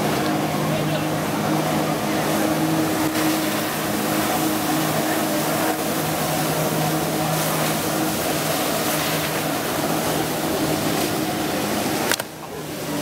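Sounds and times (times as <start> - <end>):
water jets hissing: 0.0 - 13.0
watercraft engine at high revs: 0.0 - 13.0.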